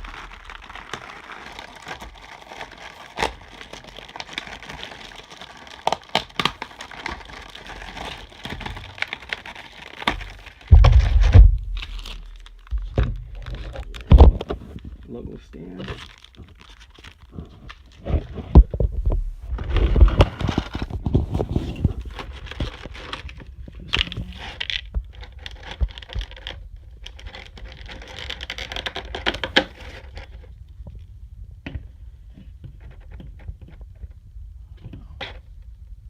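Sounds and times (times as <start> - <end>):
packaging rustling: 0.0 - 30.4
plastic parts scraping: 0.0 - 30.5.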